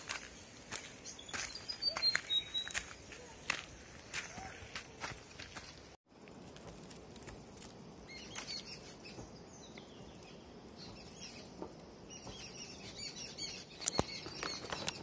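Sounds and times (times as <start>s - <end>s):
small birds chirping: 0.0s - 6.0s, 6.8s - 15.0s
faint outdoor hiss: 2.7s - 15.0s.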